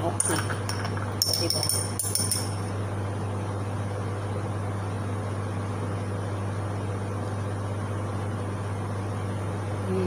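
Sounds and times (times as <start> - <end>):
appliance humming: 0.0 - 10.0.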